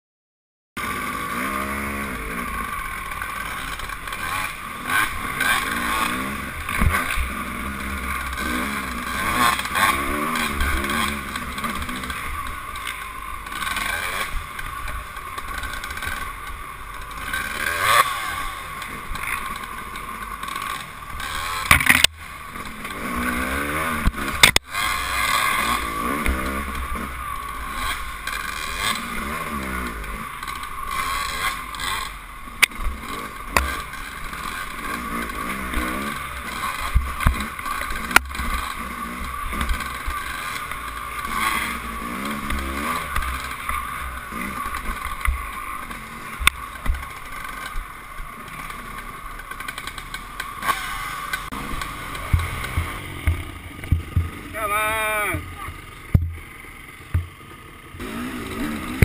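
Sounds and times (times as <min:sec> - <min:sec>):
dirt bike engines revving: 0:00.8 - 0:59.0.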